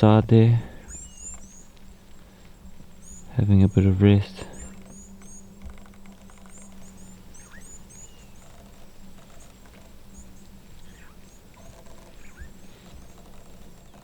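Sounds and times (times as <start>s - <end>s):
low hum: 0.0s - 14.0s
small birds chirping: 0.0s - 14.0s.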